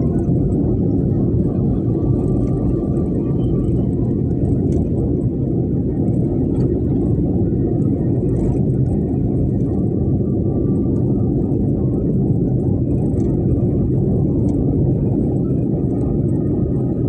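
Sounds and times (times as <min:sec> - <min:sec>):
strong wind buffeting: 0:00.0 - 0:17.0.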